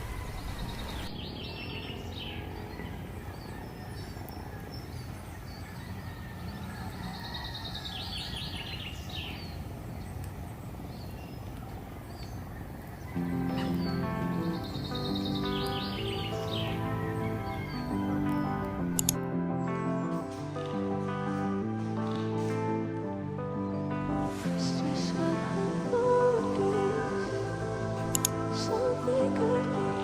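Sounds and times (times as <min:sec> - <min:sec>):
birds chirping: 0:00.0 - 0:30.0
low outdoor background noise: 0:00.0 - 0:30.0.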